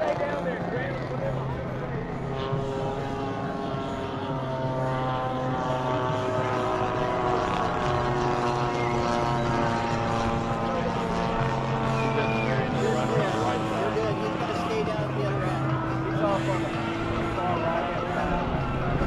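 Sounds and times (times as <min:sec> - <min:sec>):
model airplane engines droning: 0:00.0 - 0:19.0.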